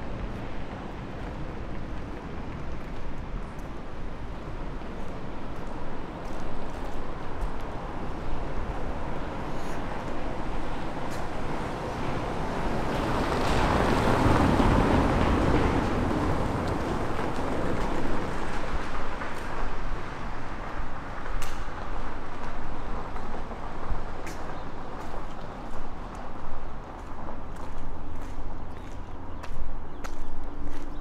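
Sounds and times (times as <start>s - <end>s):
van driving on cobblestones: 0.0s - 31.0s
wind: 0.0s - 31.0s.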